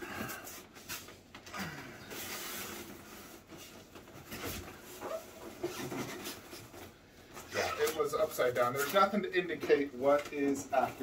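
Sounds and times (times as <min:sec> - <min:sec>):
cardboard rustling and scraping: 0:02.1 - 0:11.0.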